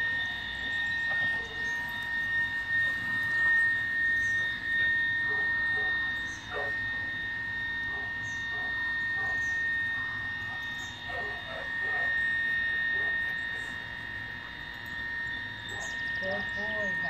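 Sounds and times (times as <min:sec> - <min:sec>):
high-pitched whine: 0:00.0 - 0:17.0
low hum: 0:00.0 - 0:17.0.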